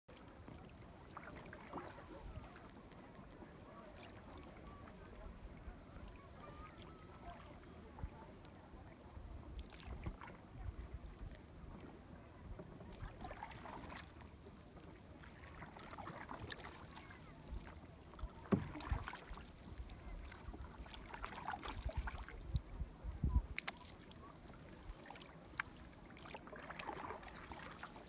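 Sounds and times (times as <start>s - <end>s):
canoe paddle swishing through water: 0.1s - 28.0s
water lapping against hull: 0.1s - 28.0s.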